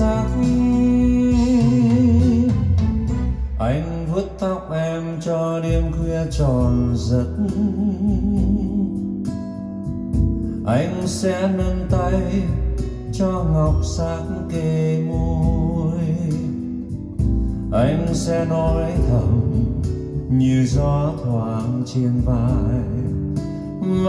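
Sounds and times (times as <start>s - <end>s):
deep sustained bass: 0.0s - 23.6s
slow ballad melody with vibrato: 0.0s - 24.0s.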